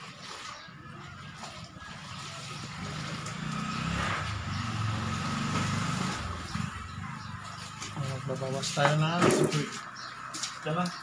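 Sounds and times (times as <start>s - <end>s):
vehicle engine passing: 1.1s - 10.7s.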